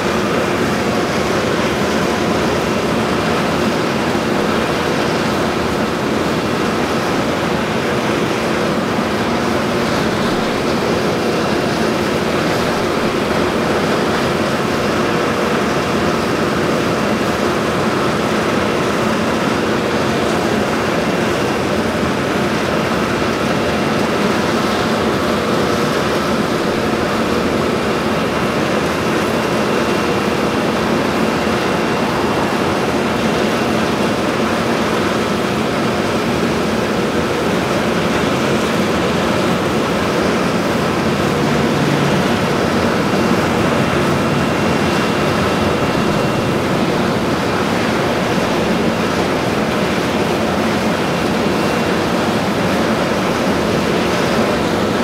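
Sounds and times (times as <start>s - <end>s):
exhaust fan running: 0.0s - 55.0s.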